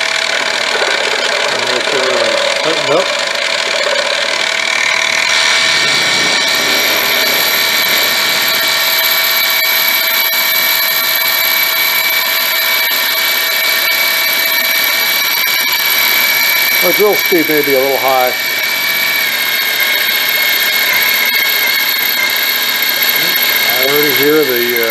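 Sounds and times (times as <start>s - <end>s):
higher whine: 0.0s - 24.9s
mill drilling aluminum whine: 0.0s - 24.9s.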